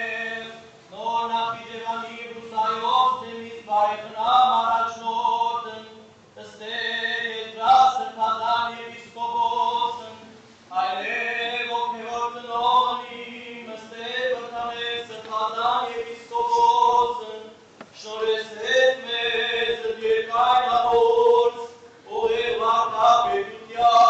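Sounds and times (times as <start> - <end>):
men chanting a hymn: 0.0 - 24.0.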